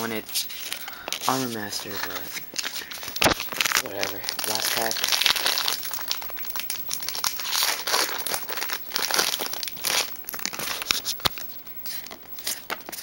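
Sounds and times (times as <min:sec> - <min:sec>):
foil pack crinkling and tearing: 0:00.5 - 0:13.0.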